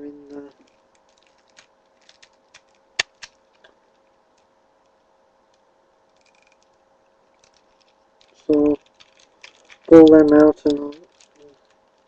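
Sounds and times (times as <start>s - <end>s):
faint rustle: 0.4s - 12.0s.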